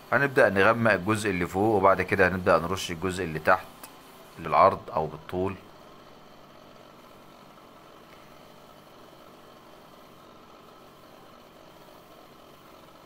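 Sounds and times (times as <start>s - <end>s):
faint mechanical hum with hiss: 0.0s - 13.0s.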